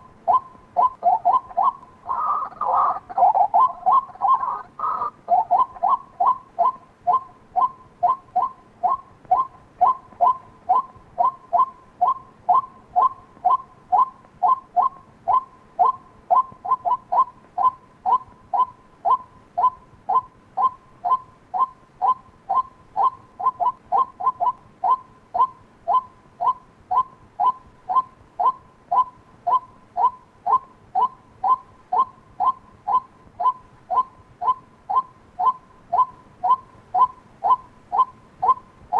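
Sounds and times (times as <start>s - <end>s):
waterhen calling: 0.0s - 38.7s.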